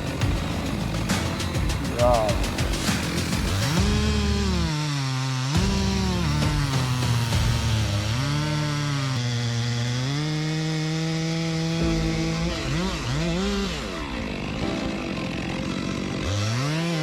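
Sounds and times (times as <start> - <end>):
chainsaw running in a cut: 0.0 - 17.0.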